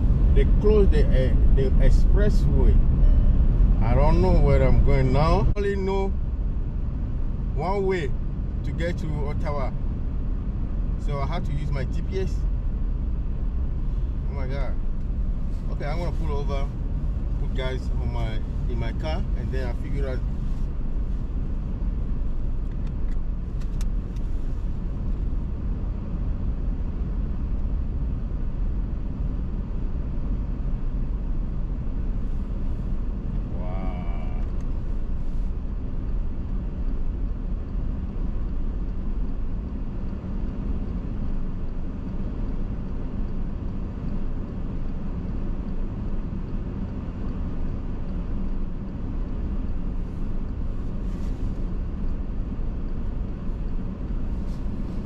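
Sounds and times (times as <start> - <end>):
car interior rumble: 0.0 - 55.0.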